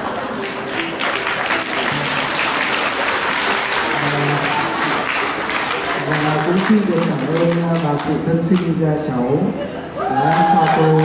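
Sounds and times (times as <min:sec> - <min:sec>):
audience applauding: 0:00.0 - 0:08.7, 0:10.0 - 0:11.0
quiet music: 0:00.0 - 0:11.0.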